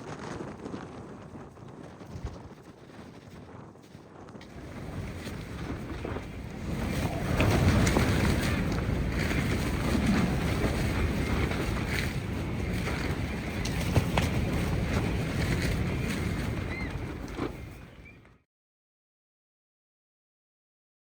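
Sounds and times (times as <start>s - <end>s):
gusty wind buffeting microphone: 0.0s - 18.4s.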